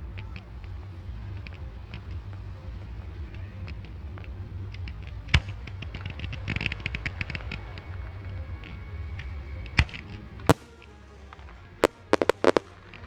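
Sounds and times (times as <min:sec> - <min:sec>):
firework bangs: 0:00.0 - 0:13.0
firework crackling: 0:00.0 - 0:13.0
low rumble: 0:00.0 - 0:13.0.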